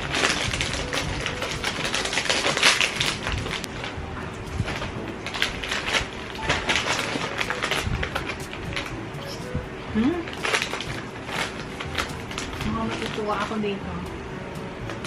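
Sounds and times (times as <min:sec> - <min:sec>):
plastic wrapper crinkling: 0:00.0 - 0:13.9.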